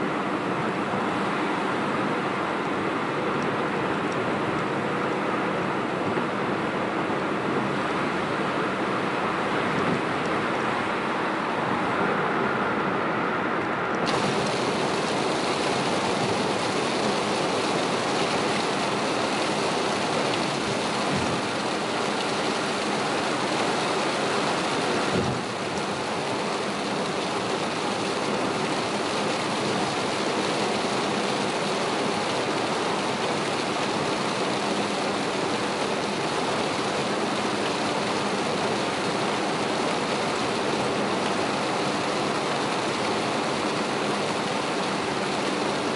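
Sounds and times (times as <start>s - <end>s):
heavy rain on a car: 0.0s - 45.9s
tyres hissing on wet road: 0.0s - 45.9s.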